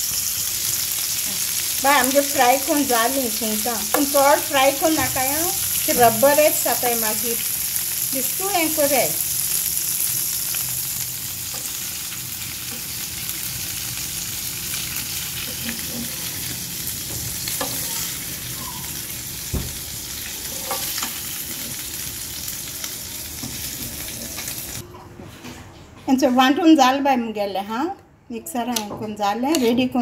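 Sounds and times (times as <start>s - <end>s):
prawns sizzling in oil: 0.0s - 24.8s.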